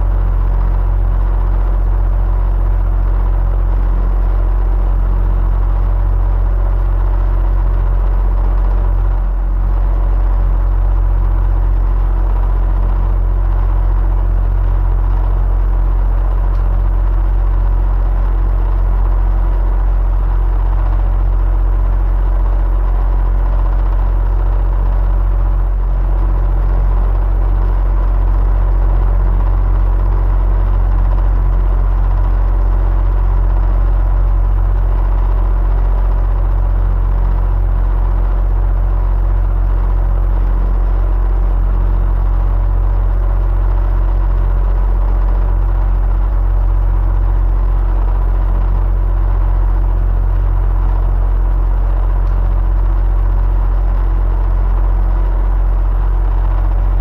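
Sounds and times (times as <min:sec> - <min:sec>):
electric fan humming and whirring: 0:00.0 - 0:57.0.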